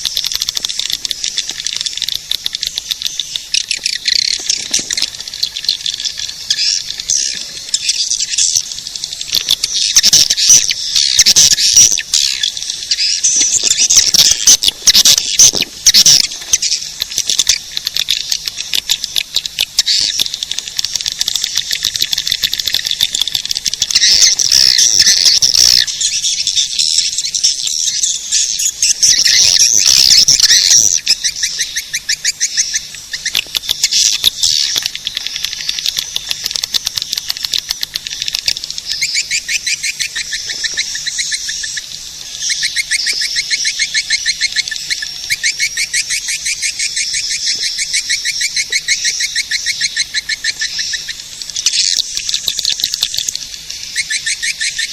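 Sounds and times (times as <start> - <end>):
swiftlet chirping trills: 0.0 - 54.9.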